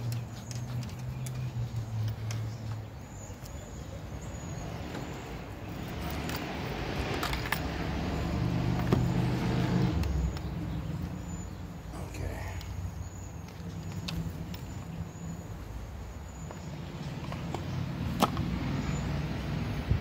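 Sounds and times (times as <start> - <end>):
low engine hum: 0.0 - 20.0
vehicle passing by: 3.7 - 20.0.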